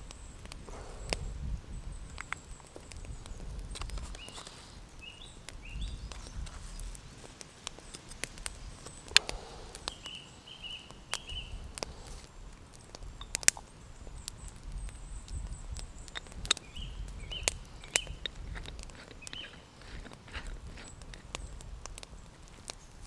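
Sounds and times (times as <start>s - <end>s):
small bird chirping: 0.0s - 23.0s.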